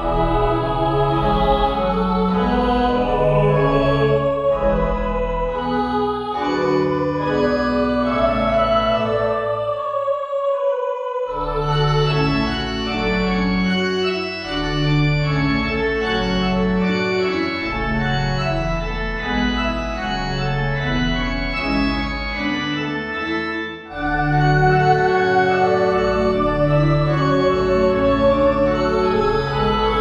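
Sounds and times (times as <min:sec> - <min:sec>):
organ playing sustained chords: 0:00.0 - 0:30.0.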